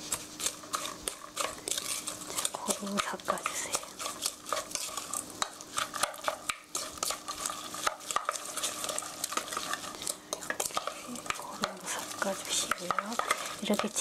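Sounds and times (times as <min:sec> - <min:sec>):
food scraping in mixing bowl: 0:00.0 - 0:14.0.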